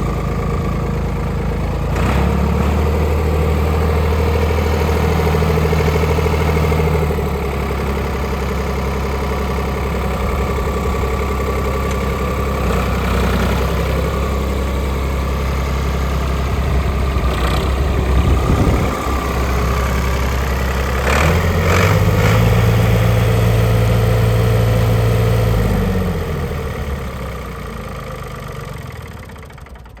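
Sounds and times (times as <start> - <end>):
tractor engine idling and revving: 0.0 - 30.0.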